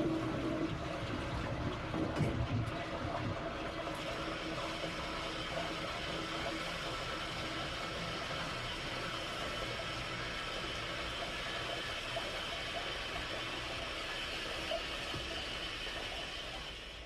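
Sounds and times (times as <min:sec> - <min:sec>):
toilet cistern refilling: 0:00.0 - 0:17.0.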